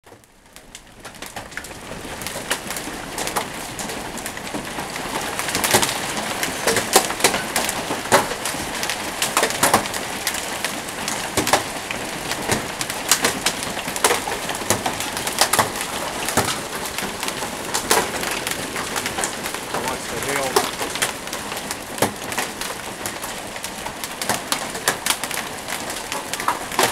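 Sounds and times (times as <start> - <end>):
hail striking hard surfaces: 0.1 - 26.9.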